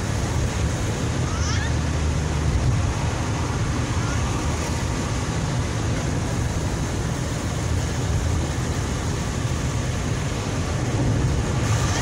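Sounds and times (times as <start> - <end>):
road and engine rumble inside car: 0.0 - 12.0.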